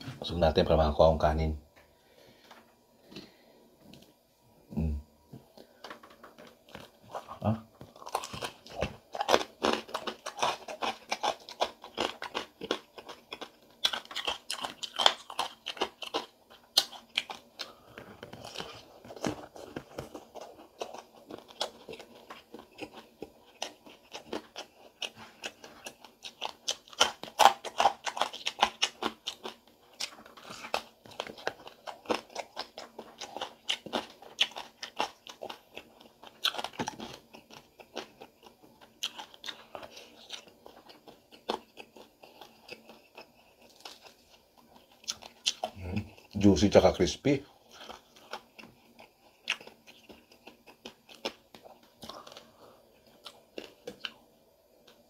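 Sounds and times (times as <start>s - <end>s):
crunchy chewing: 5.6s - 55.0s.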